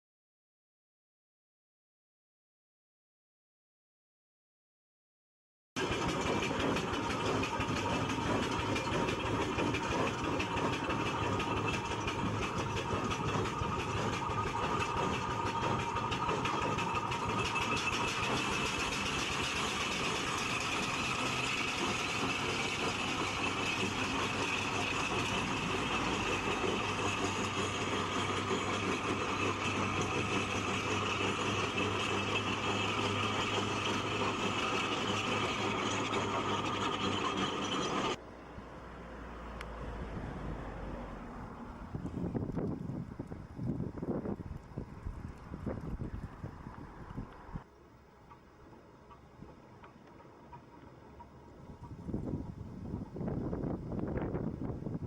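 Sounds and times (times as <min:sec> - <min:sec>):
steam roller running: 0:05.8 - 0:38.2, 0:40.3 - 0:55.0.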